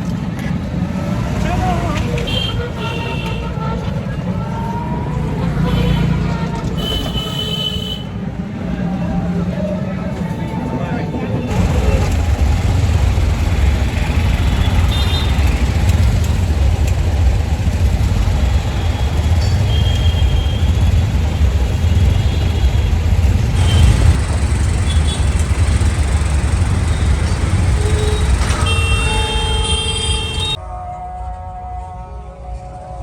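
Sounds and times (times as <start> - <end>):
road vehicle rumble: 0.0 - 30.6.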